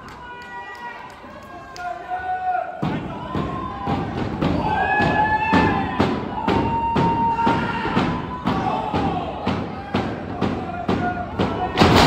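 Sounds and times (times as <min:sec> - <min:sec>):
crowd shouting: 0:00.2 - 0:12.0.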